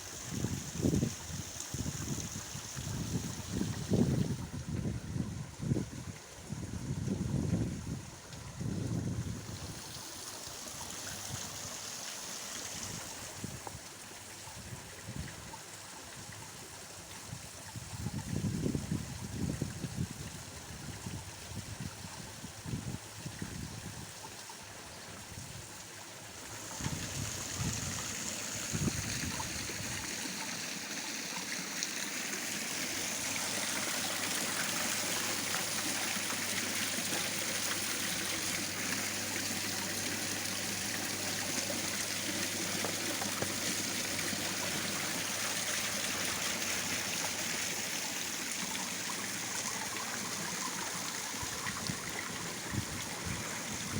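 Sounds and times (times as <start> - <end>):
waterfall splashing into pond: 0.0 - 53.9.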